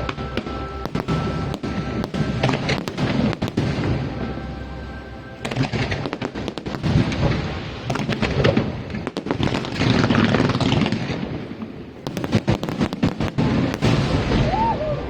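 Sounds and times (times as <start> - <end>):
fireworks bangs and crackles: 0.0 - 15.0
rumbling echo: 0.0 - 15.0.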